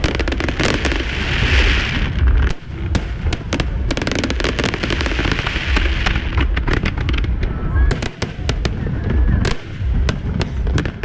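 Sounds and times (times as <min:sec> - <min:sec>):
firework bangs and crackles: 0:00.0 - 0:11.0
low rumble of booms: 0:00.0 - 0:11.0.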